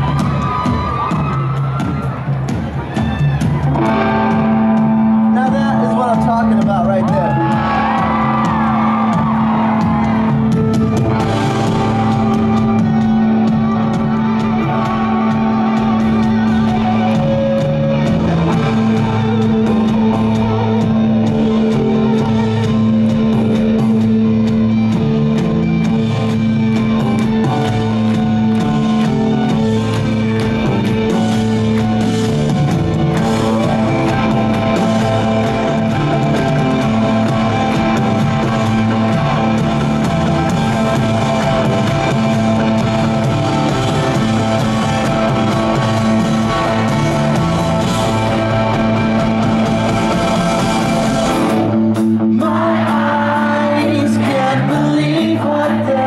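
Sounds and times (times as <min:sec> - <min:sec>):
drum beat: 0:00.0 - 0:54.3
electric guitars: 0:00.0 - 0:56.0.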